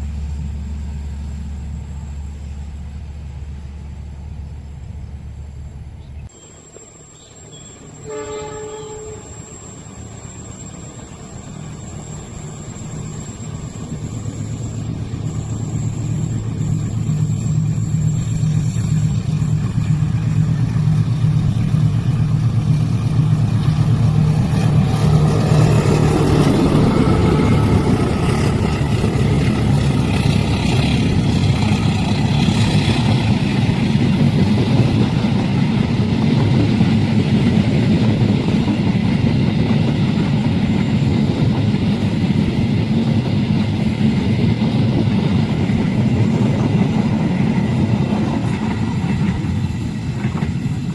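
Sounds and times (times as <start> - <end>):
locomotive engine drone: 0.0 - 50.9
train cars rolling past: 0.0 - 50.9.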